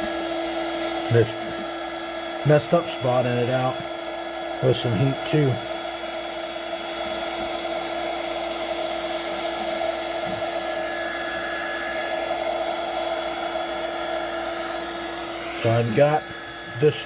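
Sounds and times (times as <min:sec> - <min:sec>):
heat gun fan humming: 0:00.0 - 0:17.0.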